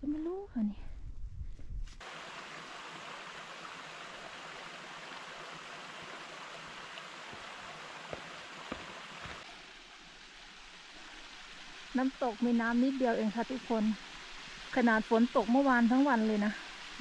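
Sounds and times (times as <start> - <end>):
small waterfall rushing: 2.0 - 17.0.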